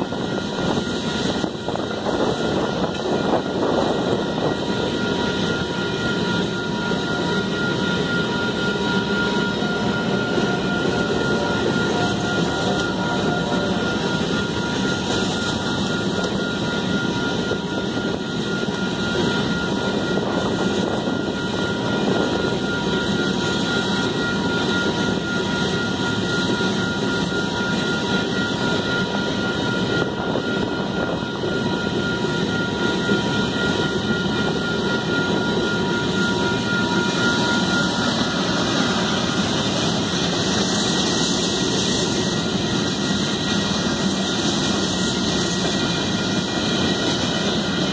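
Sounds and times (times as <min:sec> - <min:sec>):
freight train wheels rumbling: 0:00.0 - 0:47.9.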